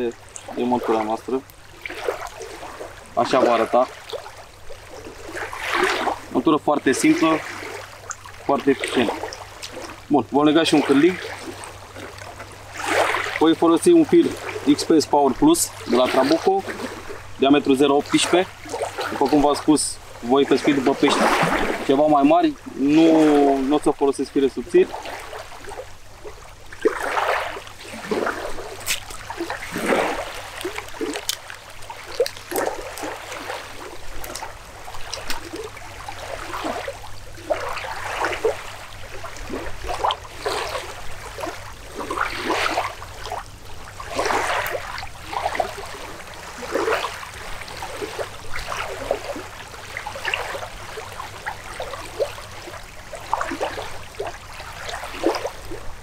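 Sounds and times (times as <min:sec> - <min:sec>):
water lapping at shore: 0:00.0 - 0:56.0.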